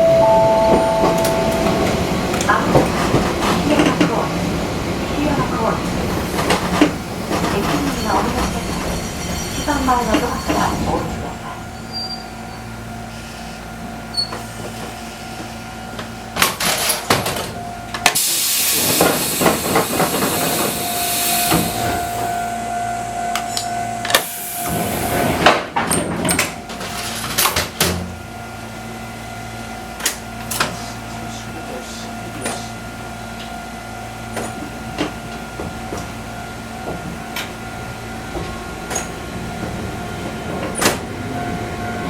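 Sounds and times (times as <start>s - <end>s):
train electrical hum: 0.0s - 42.0s.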